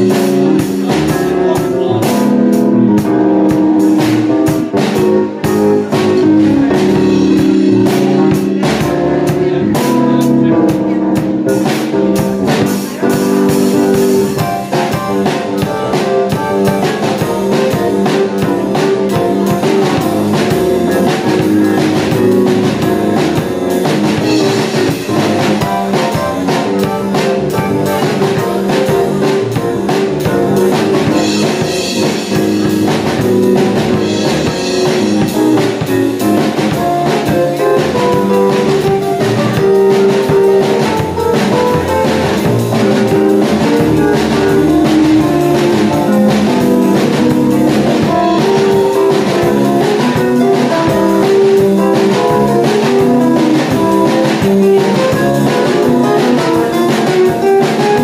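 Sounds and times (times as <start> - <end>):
drum kit steady beat: 0.0 - 58.0
electric keyboard piano lines: 0.0 - 58.0.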